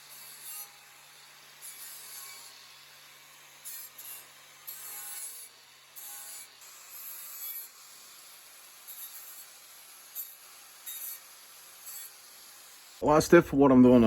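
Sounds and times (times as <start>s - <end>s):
rasping metal filing: 0.0s - 2.8s, 3.4s - 13.0s.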